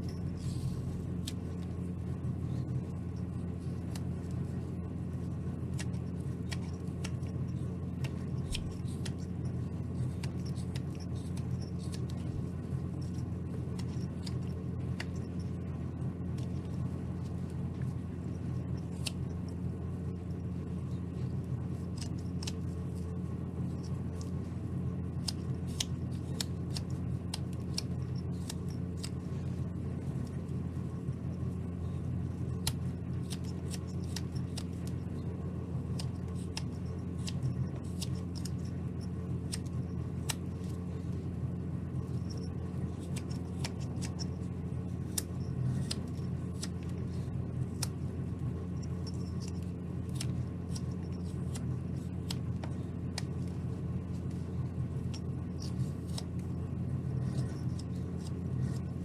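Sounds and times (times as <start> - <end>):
knife carving wood shavings: 0.0 - 59.0
steady low hum: 0.0 - 59.0.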